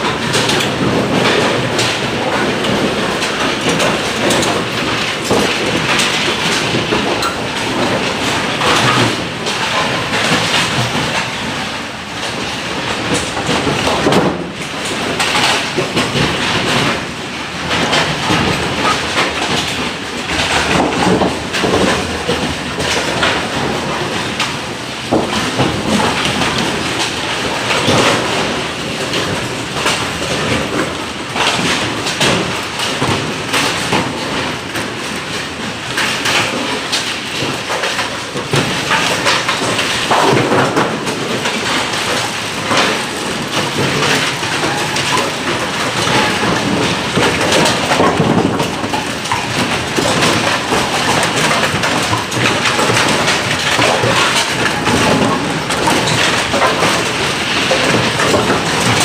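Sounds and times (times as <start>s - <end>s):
pins clattering and clacking: 0.0s - 59.0s.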